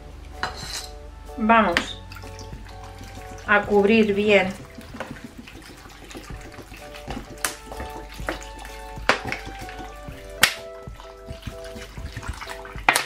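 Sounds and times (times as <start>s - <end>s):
background music: 0.0s - 13.0s
water pouring into a pot: 1.9s - 13.0s.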